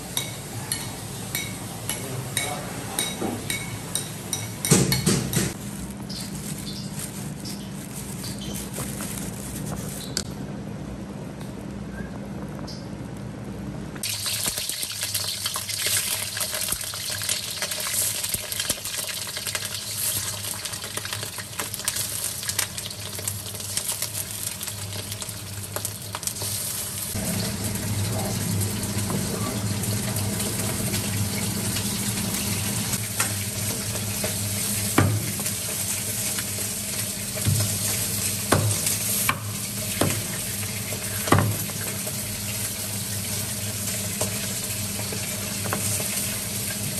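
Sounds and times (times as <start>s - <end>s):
hot oil sizzling: 3.4s - 10.2s, 14.0s - 46.9s.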